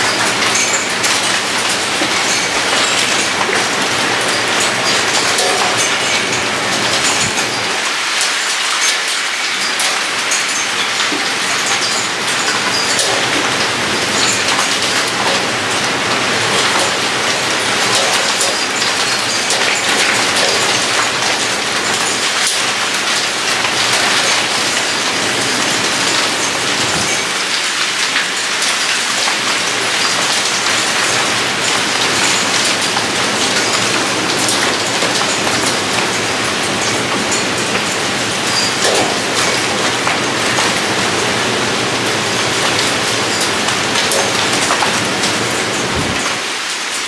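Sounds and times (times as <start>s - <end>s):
heavy rain pouring: 0.0s - 47.0s
raindrops ticking on surfaces: 0.0s - 47.0s.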